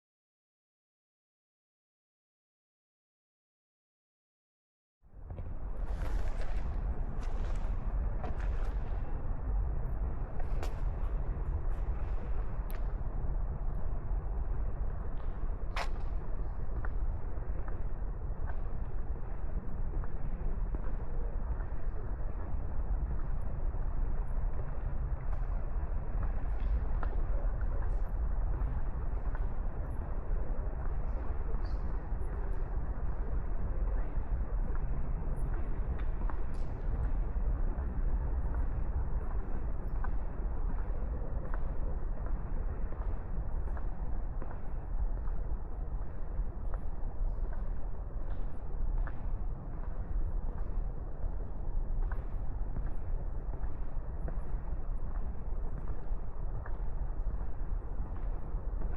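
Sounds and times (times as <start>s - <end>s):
low city rumble: 5.0s - 58.9s.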